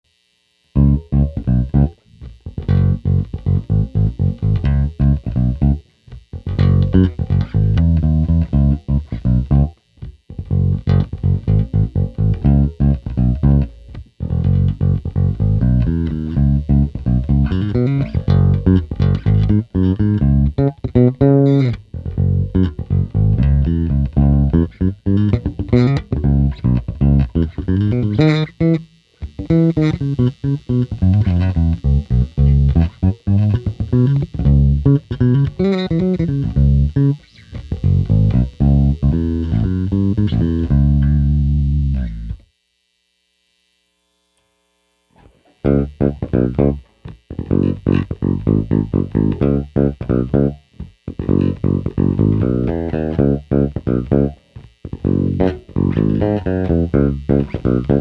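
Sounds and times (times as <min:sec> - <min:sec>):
electric bass plucked notes: 0:00.1 - 0:42.5, 0:45.6 - 0:58.0.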